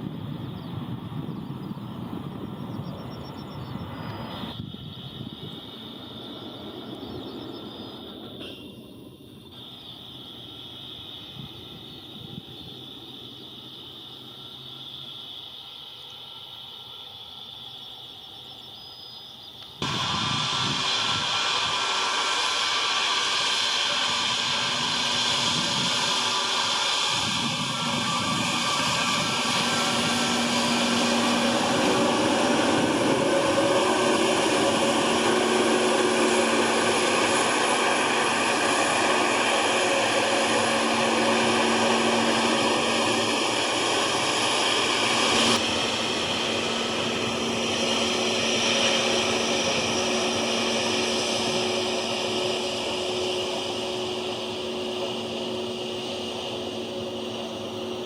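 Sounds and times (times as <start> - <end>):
airliner engines rushing: 0.0 - 58.0.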